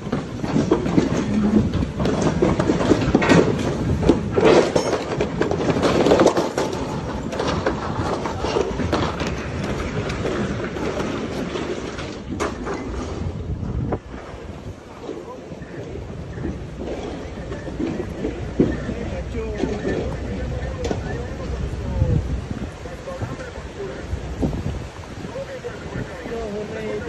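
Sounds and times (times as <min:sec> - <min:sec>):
floodwater rushing loudly: 0:00.0 - 0:27.0
wind buffeting the microphone: 0:00.0 - 0:27.0.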